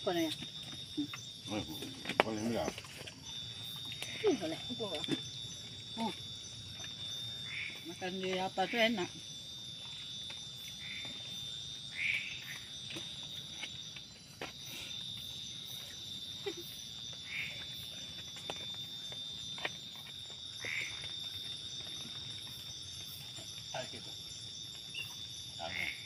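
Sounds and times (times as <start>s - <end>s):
frogs calling: 0.0s - 26.0s
insects droning: 0.0s - 26.0s.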